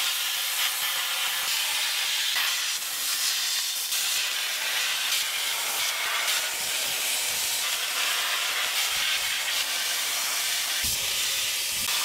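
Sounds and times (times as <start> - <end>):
sandblaster hissing: 0.0 - 12.0.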